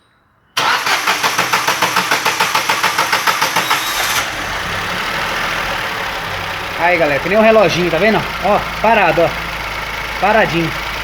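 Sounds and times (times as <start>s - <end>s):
car engine idling: 0.6s - 11.0s
starter motor cranking engine: 0.6s - 11.0s.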